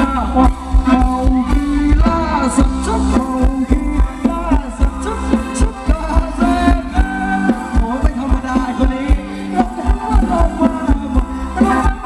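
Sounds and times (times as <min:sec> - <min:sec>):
fast drum beat: 0:00.0 - 0:12.0
live dance band music: 0:00.0 - 0:12.0.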